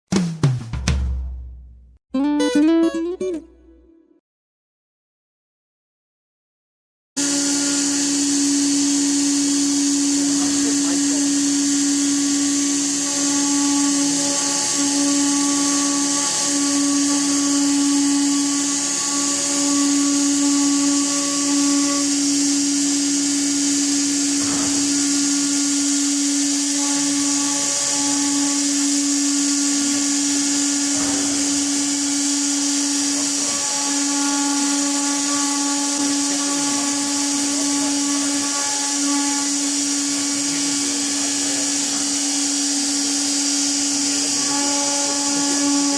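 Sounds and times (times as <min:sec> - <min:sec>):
electric motor humming and whining: 0:07.2 - 0:45.9.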